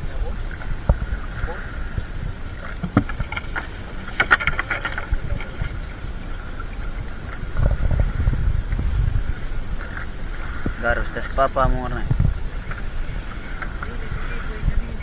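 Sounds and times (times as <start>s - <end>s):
low rumble of moving water: 0.0s - 15.0s
water splashing and sloshing: 0.0s - 15.0s.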